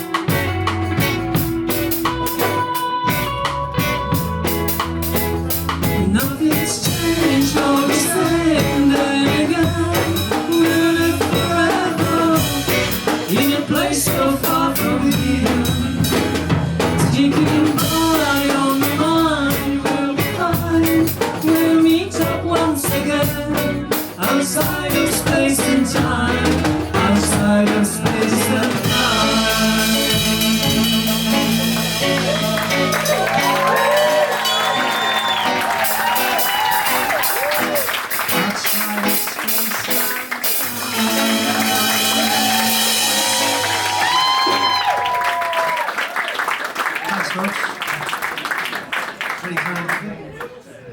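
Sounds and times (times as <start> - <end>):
live band playing reggae: 0.0 - 45.8
drum kit: 0.0 - 46.6.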